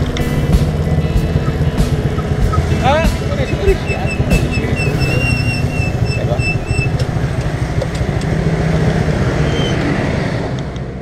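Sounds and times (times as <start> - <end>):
motorbike engine running: 0.0 - 9.6.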